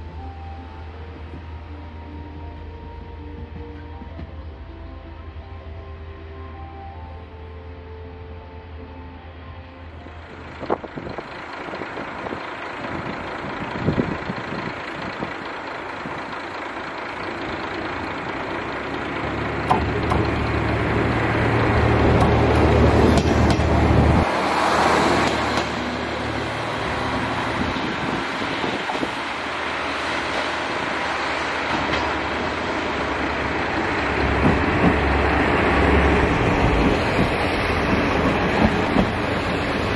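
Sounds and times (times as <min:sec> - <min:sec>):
train wheel noise: 0:00.0 - 0:05.5, 0:09.8 - 0:39.9
diesel railcar engine drone: 0:00.0 - 0:39.9.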